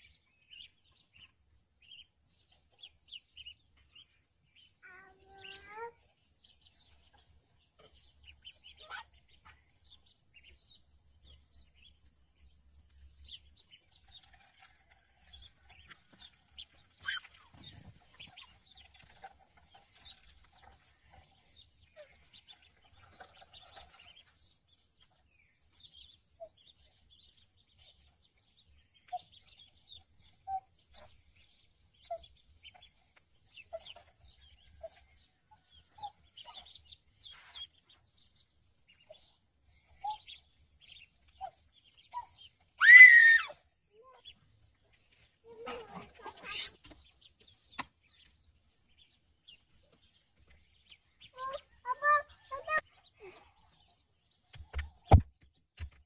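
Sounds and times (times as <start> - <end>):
ducklings peeping: 0.0 - 55.2.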